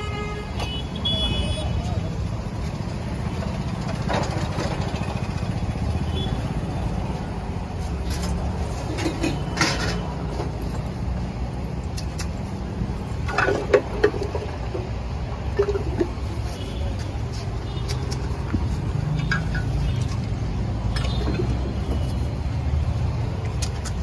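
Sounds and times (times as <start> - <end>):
low rumble of street traffic: 0.0 - 24.0.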